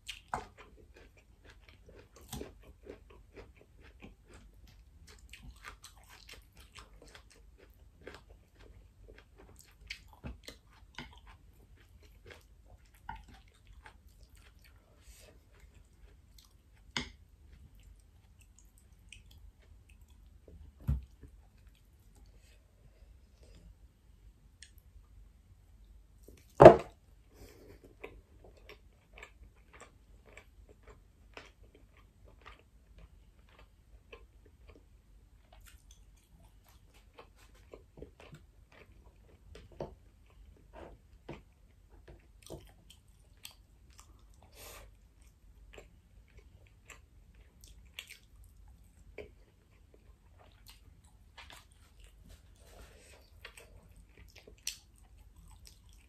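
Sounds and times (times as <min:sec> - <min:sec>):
person chewing food: 0:00.0 - 0:23.9, 0:26.2 - 0:56.0.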